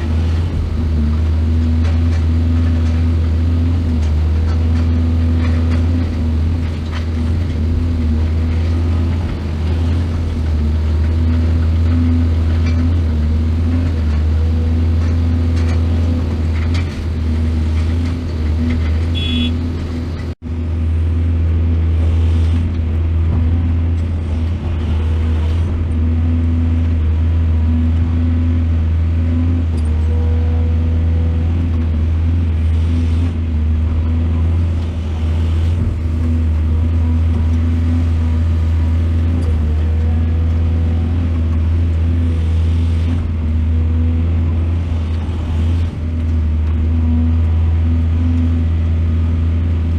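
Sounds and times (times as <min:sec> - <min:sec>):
excavator diesel engine droning: 0:00.0 - 0:49.9.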